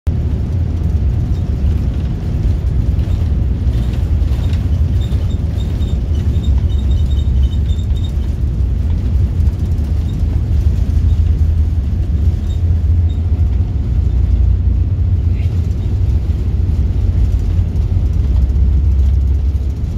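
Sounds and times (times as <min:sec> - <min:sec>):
airliner cabin low rumble: 0:00.1 - 0:19.9.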